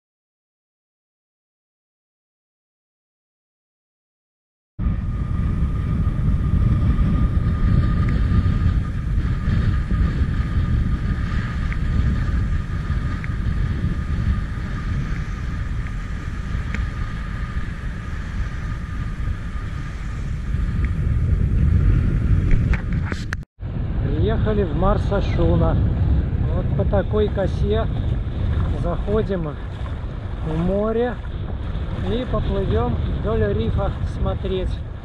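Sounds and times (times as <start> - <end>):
wind buffeting the microphone: 4.8 - 35.0.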